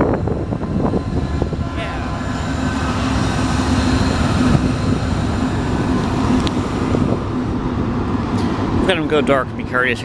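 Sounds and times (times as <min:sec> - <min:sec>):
faint steady whine: 0:00.0 - 0:08.5
train rumbling past: 0:00.0 - 0:10.0.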